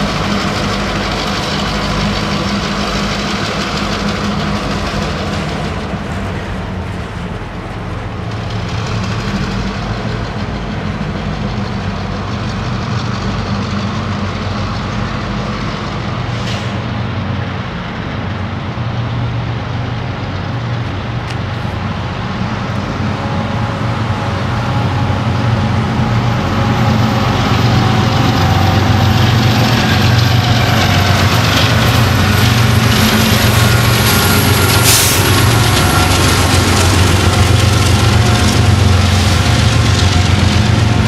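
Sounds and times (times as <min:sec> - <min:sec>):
diesel engine drone: 0:00.0 - 0:41.0
freight train rumbling: 0:00.0 - 0:41.0.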